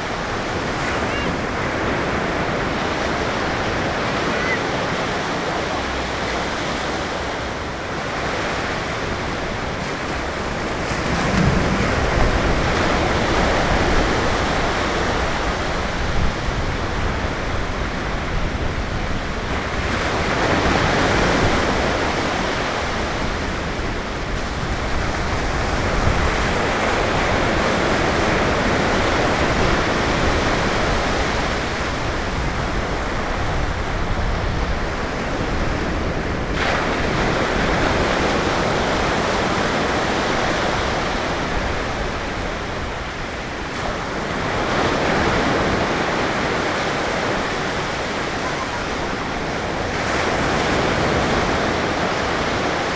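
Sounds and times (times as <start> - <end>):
waves breaking on beach: 0.0 - 52.9.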